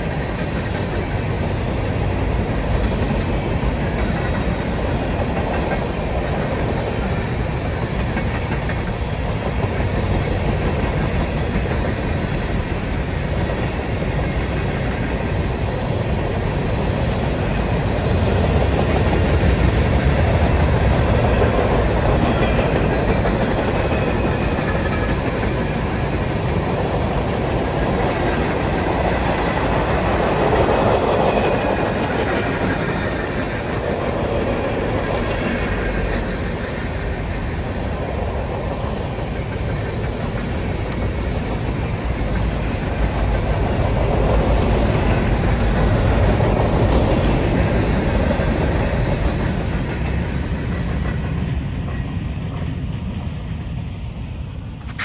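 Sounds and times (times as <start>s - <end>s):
freight train cars rolling past: 0.0s - 55.0s.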